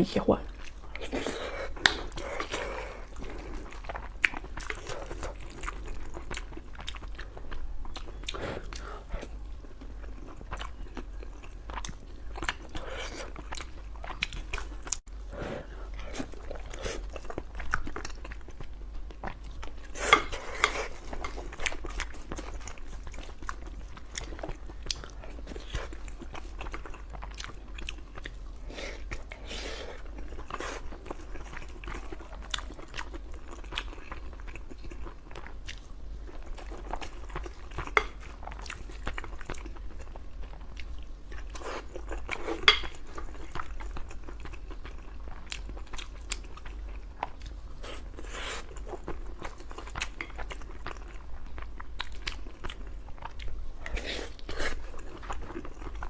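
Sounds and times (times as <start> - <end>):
person chewing food: 0.5 - 56.0.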